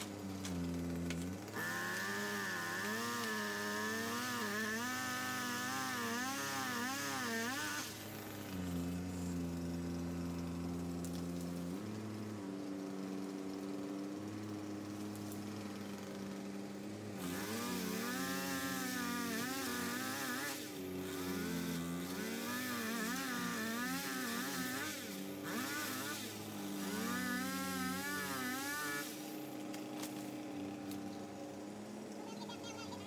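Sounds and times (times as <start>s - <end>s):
chainsaw cutting wood: 0.0s - 33.0s
steady engine hum: 0.0s - 33.0s.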